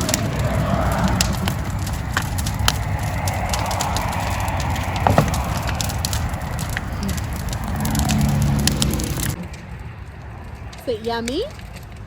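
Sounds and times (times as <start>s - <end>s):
bonfire crackling and popping: 0.0s - 12.0s
road traffic rumble: 0.0s - 12.0s.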